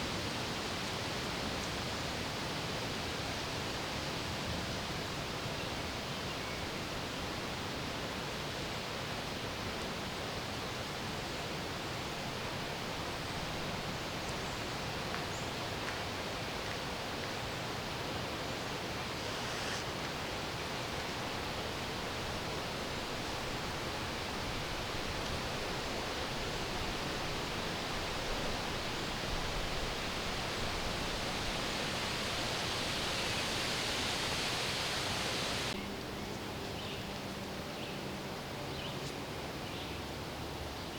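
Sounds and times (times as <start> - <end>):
wind rushing through trees: 0.0 - 40.9.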